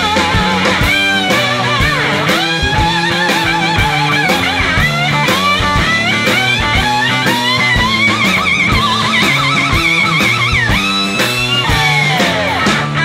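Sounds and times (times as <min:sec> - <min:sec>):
bass: 0:00.0 - 0:13.0
rock lead guitar melody: 0:00.0 - 0:13.0
steady drum beat: 0:00.0 - 0:13.0.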